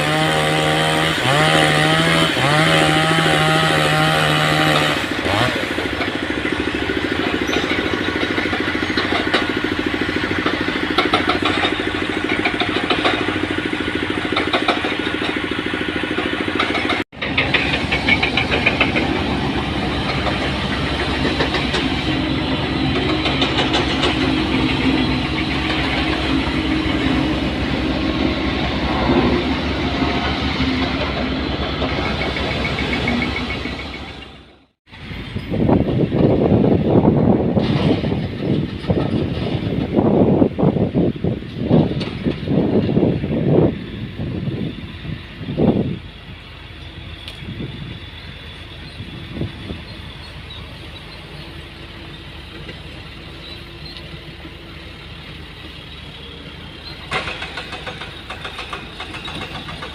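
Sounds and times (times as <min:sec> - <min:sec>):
heavy machinery engines running: 0:00.0 - 0:59.9.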